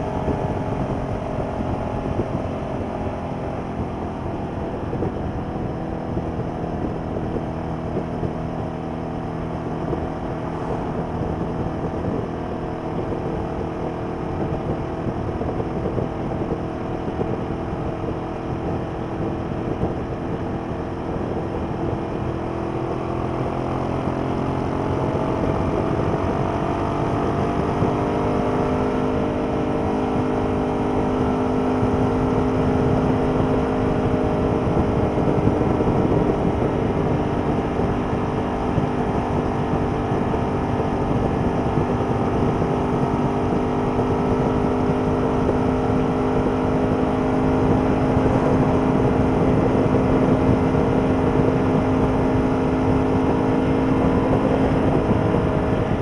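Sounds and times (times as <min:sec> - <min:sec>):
motorcycle engine running at speed: 0:00.0 - 0:56.0.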